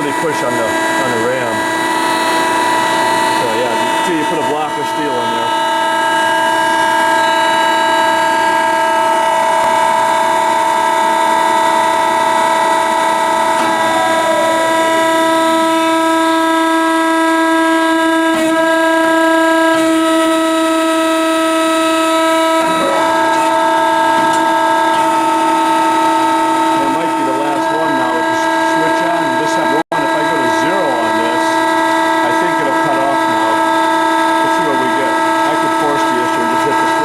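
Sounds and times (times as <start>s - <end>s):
band saw cutting steel: 0.0s - 37.0s.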